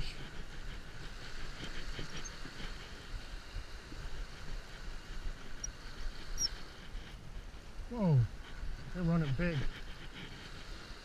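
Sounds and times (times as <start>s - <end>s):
small waves washing ashore: 0.0s - 11.0s
wind rumble on microphone: 0.0s - 11.0s.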